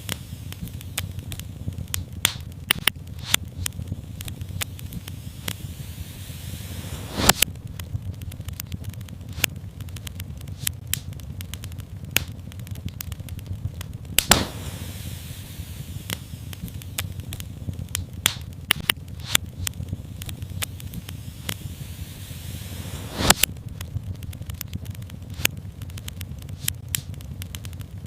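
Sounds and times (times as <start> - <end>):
loud fire pops: 0.0 - 28.0
soft hiss: 0.0 - 28.0
wood fire crackling: 0.0 - 28.0.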